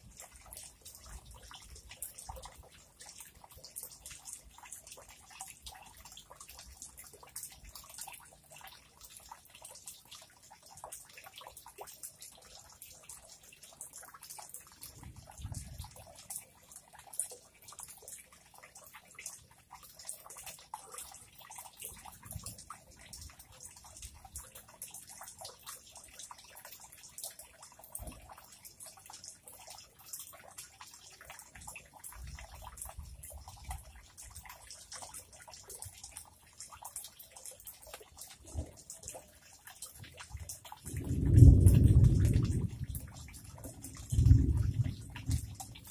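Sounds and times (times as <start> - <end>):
water dripping into pond: 0.0 - 45.9.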